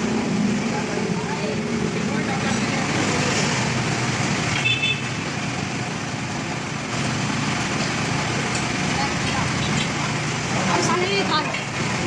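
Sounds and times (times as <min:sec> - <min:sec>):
vehicle engine and traffic: 0:00.0 - 0:12.0.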